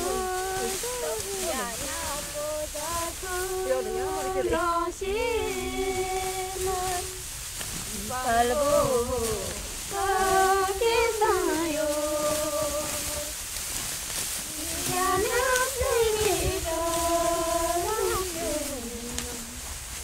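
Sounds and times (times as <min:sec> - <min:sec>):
solo voice singing folk song: 0:00.0 - 0:13.5, 0:14.4 - 0:19.8
faint steady hiss: 0:00.0 - 0:20.0.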